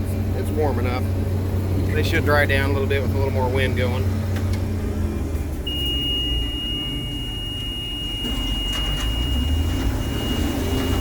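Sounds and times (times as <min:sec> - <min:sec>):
combine harvester engine hum: 0:00.0 - 0:11.0.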